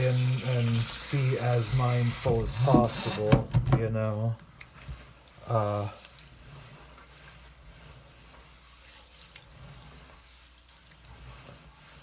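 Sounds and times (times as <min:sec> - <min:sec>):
seed being stirred in water: 0:00.0 - 0:03.3, 0:04.7 - 0:12.0
water at a sink: 0:00.0 - 0:12.0.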